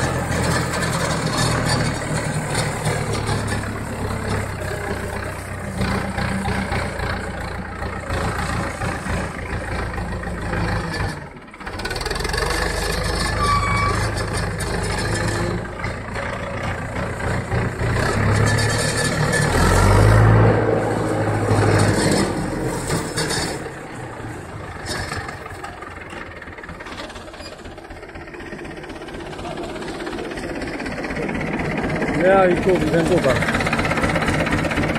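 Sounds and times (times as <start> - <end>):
tractor diesel engine passing: 0.0 - 34.9.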